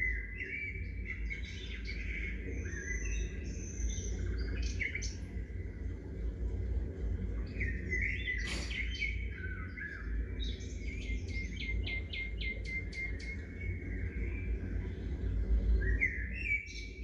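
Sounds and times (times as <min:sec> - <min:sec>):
birds chirping: 0:00.0 - 0:17.0
low background rumble: 0:00.0 - 0:17.0.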